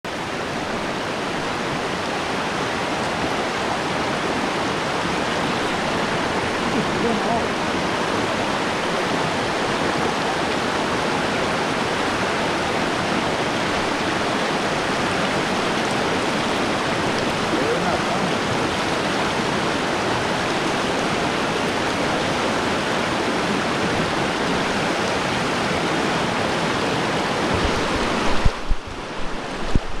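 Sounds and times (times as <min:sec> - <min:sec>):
running water: 0:00.1 - 0:30.0.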